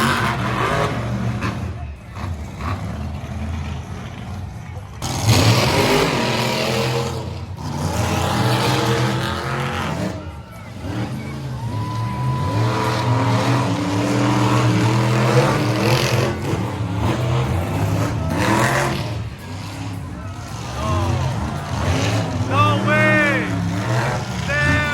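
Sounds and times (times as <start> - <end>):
truck engine revving hard: 0.0 - 24.9.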